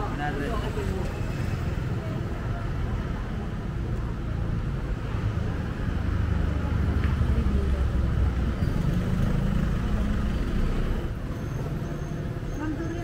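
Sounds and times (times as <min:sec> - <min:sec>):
street traffic rumble: 0:00.0 - 0:13.0
vehicle engine running nearby: 0:00.2 - 0:13.0.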